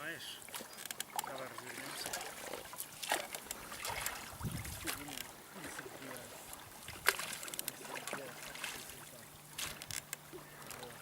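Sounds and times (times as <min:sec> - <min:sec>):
oars splashing in water: 0:00.4 - 0:11.0.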